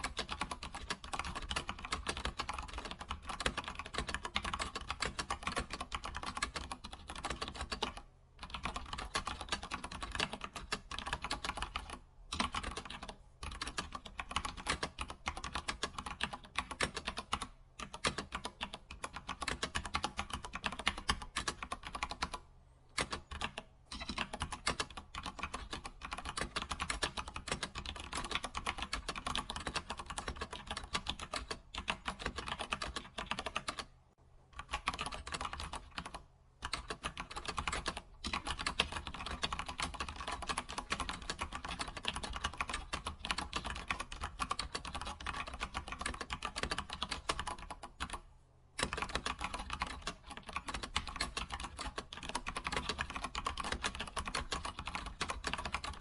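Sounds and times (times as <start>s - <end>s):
keyboard typing clicks: 0.0s - 33.9s, 34.6s - 48.2s, 48.8s - 56.0s.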